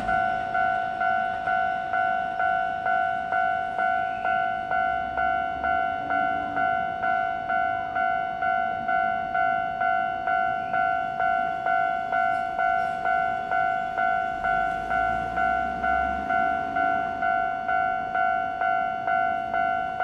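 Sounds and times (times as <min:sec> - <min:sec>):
level-crossing alarm dinging: 0:00.0 - 0:20.0.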